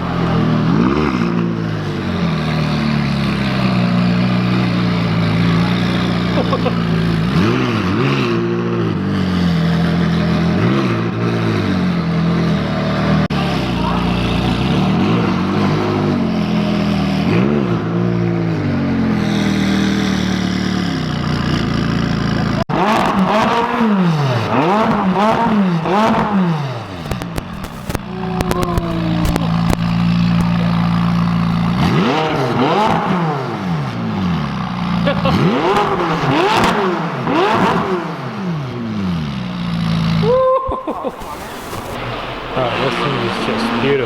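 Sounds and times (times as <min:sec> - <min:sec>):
car engine idling and revving: 0:00.0 - 0:40.4, 0:41.4 - 0:44.0.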